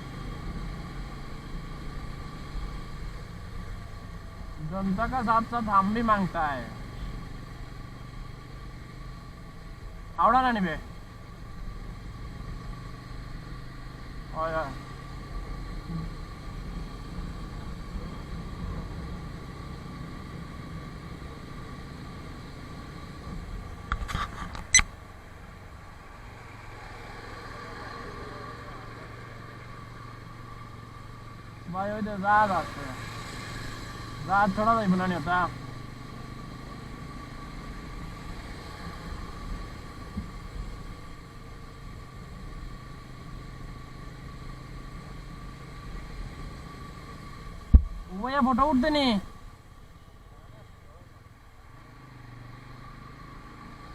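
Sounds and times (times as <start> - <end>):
motorcycle engine and road rumble: 0.0 - 53.9.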